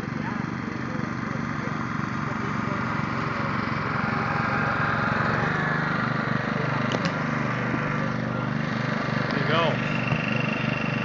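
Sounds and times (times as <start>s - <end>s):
reel mower engine running: 0.0s - 11.0s.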